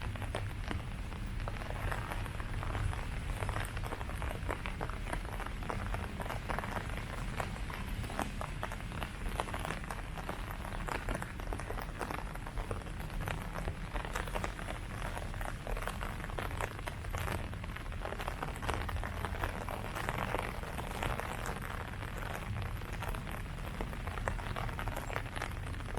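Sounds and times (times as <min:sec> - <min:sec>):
rain falling on leaves: 0:00.0 - 0:25.9.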